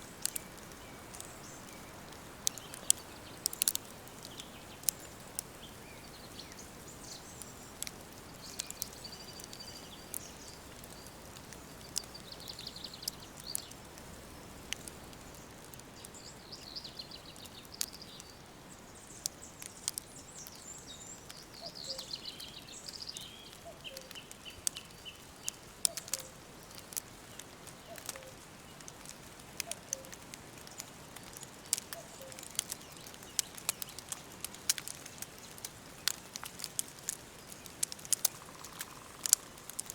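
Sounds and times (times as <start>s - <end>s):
songbirds singing: 0.0s - 39.9s
steady hiss: 0.0s - 39.9s
wood fire crackling: 0.0s - 39.9s.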